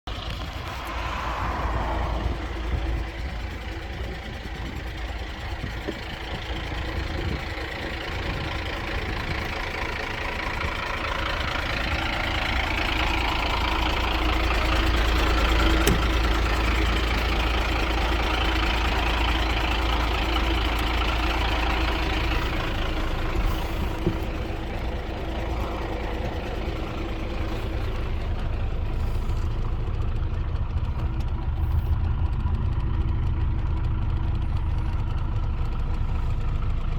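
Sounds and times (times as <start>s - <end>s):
truck diesel engine running: 0.1s - 36.9s.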